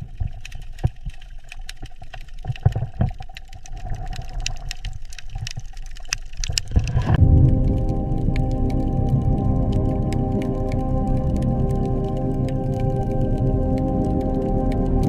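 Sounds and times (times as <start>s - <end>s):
sharp underwater clicks: 0.0s - 15.0s
underwater rumble of moving water: 0.0s - 15.0s.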